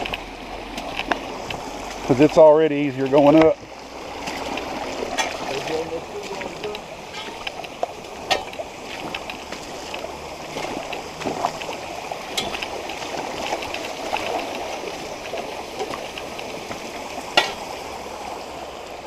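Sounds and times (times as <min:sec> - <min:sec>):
boots splashing through water: 0:00.0 - 0:18.6
stream rushing: 0:00.0 - 0:19.0.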